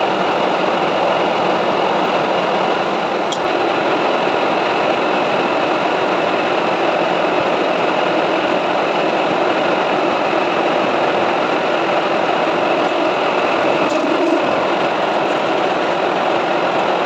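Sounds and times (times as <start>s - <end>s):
metal lathe running: 0.0s - 17.0s.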